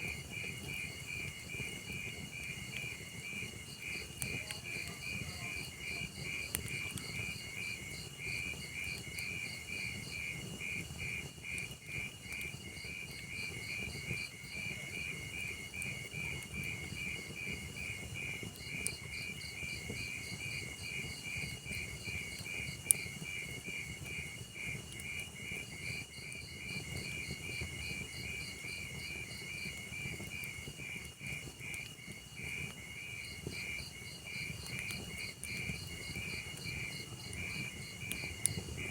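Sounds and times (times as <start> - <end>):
burning logs popping: 0.0 - 38.9
wood fire crackling: 0.0 - 38.9
crickets chirping: 0.1 - 11.2, 12.3 - 38.9.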